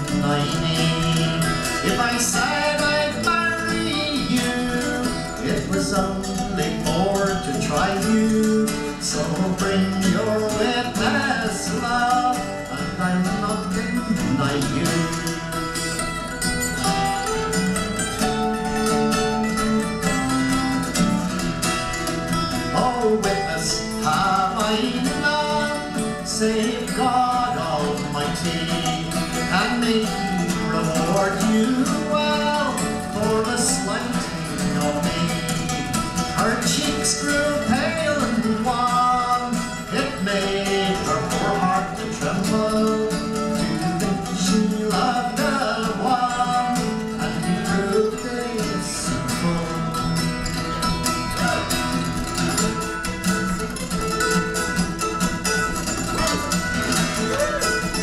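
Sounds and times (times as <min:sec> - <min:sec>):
acoustic folk guitar music: 0:00.0 - 0:58.0.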